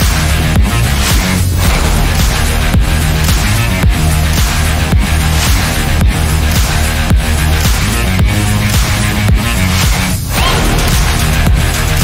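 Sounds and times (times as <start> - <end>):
music with thumping beat: 0.0 - 12.0.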